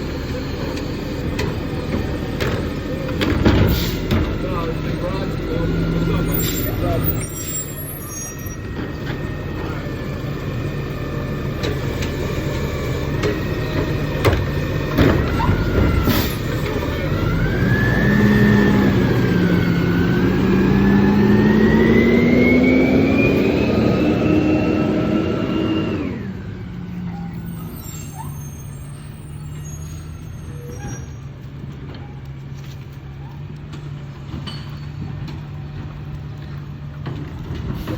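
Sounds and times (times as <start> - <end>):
diesel engine idling and revving: 0.0 - 37.9.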